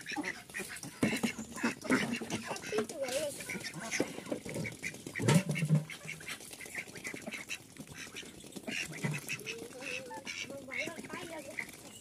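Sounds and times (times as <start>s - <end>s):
bills pecking and dabbling: 0.0s - 12.0s
ducks quacking: 0.0s - 12.0s.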